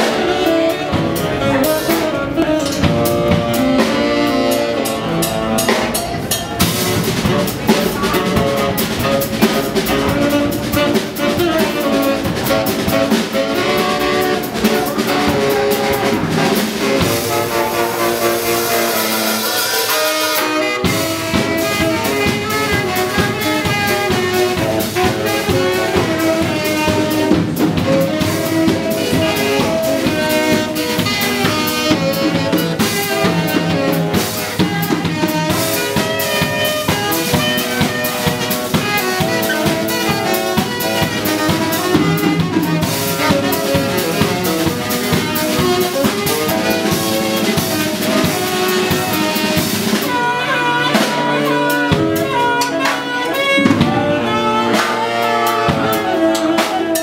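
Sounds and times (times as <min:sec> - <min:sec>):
saxophones playing melody: 0:00.0 - 0:57.0
steady drum beat: 0:00.0 - 0:57.0.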